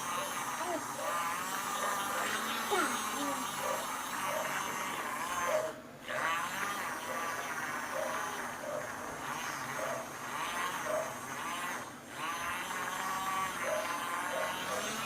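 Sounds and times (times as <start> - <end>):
small motor buzzing whine: 0.0 - 15.0.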